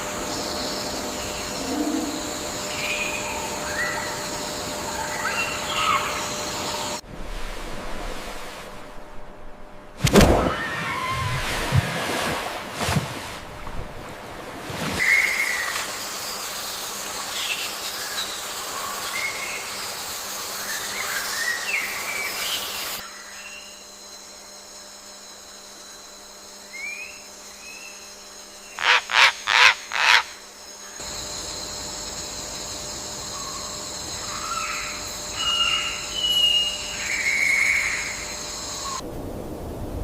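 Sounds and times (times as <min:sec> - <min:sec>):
steady outdoor hiss: 0:00.0 - 0:40.0.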